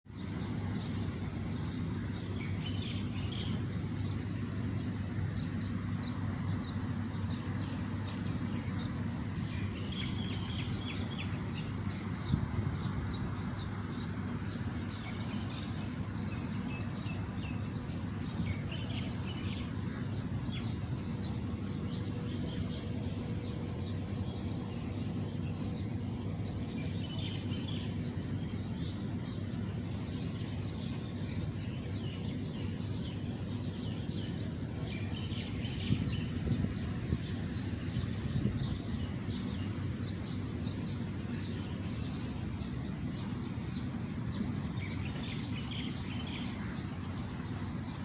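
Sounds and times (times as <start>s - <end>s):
low background noise: 0.1s - 48.0s
small birds chirping: 0.1s - 48.0s.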